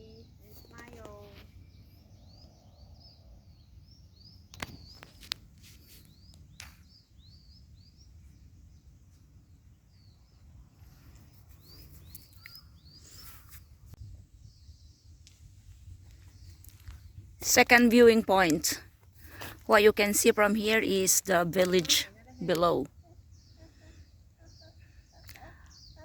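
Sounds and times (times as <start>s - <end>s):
bird chirping: 0.0s - 15.4s, 16.2s - 26.0s.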